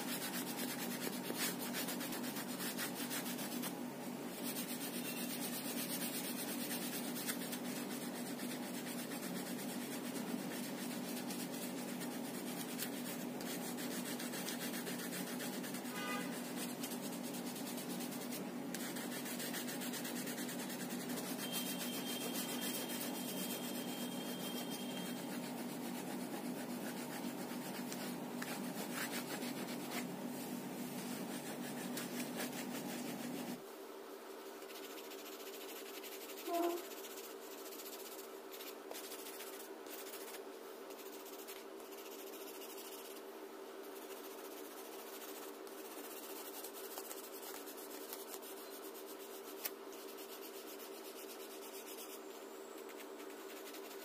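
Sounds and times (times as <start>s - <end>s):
crayon scribbling on paper: 0.0s - 3.7s, 4.4s - 30.1s, 30.8s - 33.6s, 34.6s - 43.2s, 43.9s - 52.2s, 52.9s - 54.0s.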